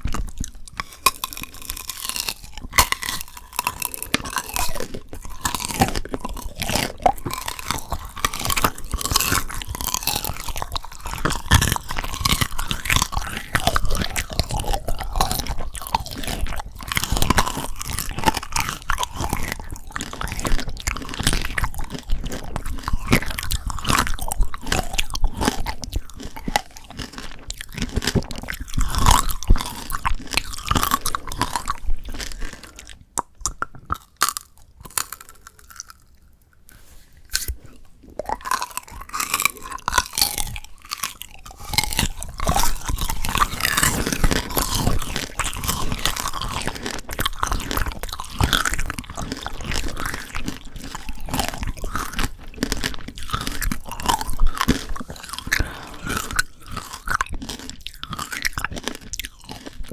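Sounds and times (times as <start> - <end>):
crunching and chewing candy: 0.0 - 59.9.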